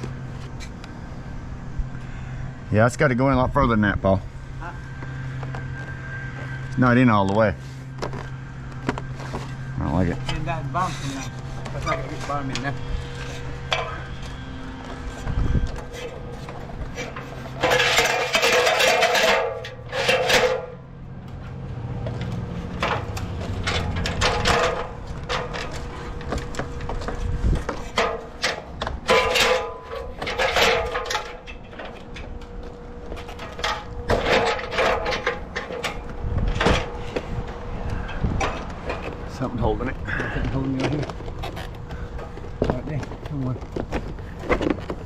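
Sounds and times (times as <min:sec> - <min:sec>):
plastic siding scraping and rattling: 0:08.0 - 0:21.4, 0:22.0 - 0:45.0.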